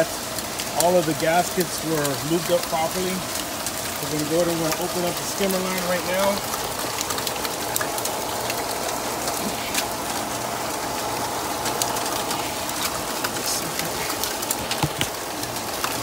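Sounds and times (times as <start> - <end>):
pool pump motor hum: 0.0 - 16.0
rain falling on equipment: 0.0 - 16.0.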